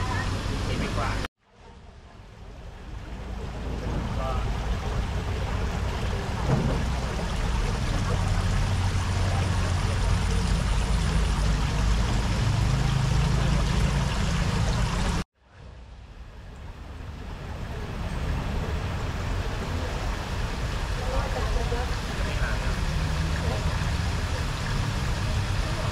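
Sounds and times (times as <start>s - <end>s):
rushing noise with low rumble: 0.0s - 25.9s.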